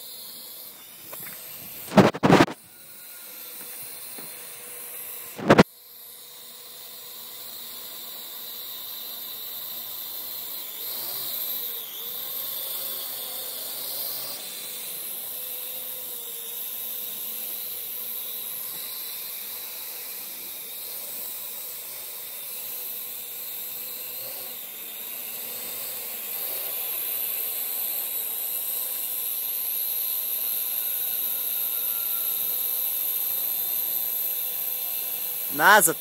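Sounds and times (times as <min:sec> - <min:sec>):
quadcopter rotors whining: 0:00.0 - 0:36.0.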